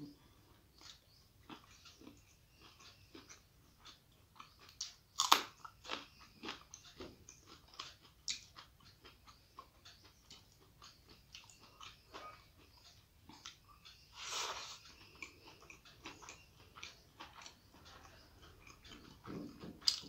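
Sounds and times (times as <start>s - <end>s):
crisp chewing crunches: 0.7s - 13.6s, 14.2s - 20.0s.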